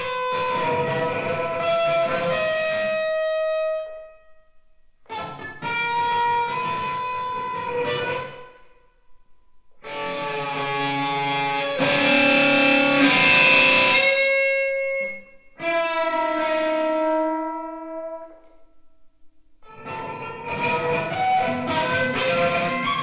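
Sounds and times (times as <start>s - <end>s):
electric guitar chords: 0.0s - 4.4s, 5.0s - 8.7s, 9.7s - 18.6s, 19.6s - 23.0s.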